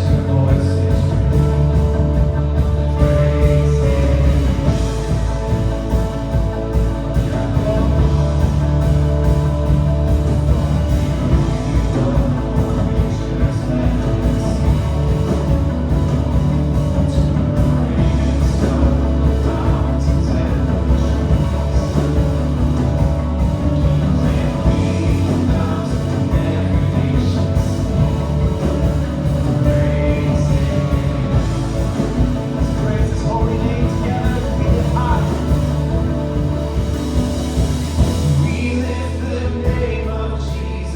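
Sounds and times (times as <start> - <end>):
person singing: 0.0 - 37.3, 37.9 - 40.9
bass line: 0.0 - 40.9
electric guitar: 0.0 - 40.9
rock band playing: 0.0 - 40.9.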